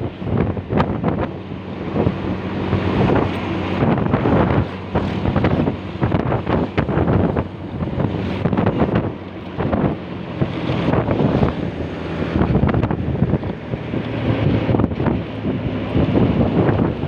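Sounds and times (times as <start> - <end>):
vehicle engine droning: 0.0 - 17.0
wind buffeting microphone: 0.0 - 17.0.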